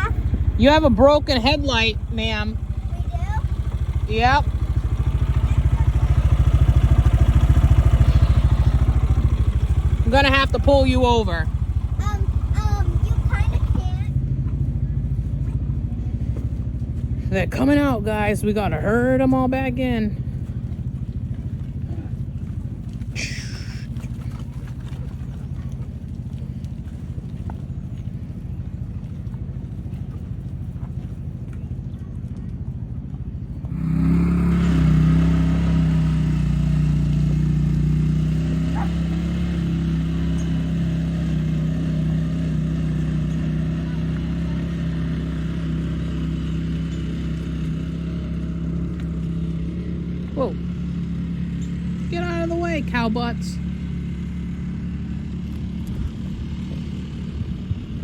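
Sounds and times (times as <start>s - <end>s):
small farm vehicle engine running: 0.0s - 58.0s.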